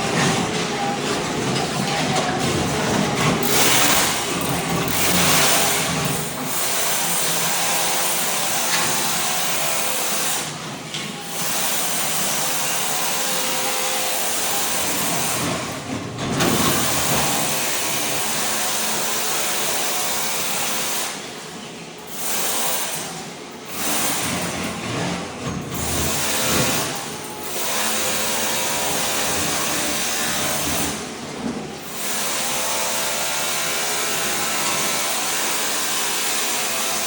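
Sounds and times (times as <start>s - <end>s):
floor scraper grinding scrape: 0.0s - 21.2s, 22.1s - 37.0s.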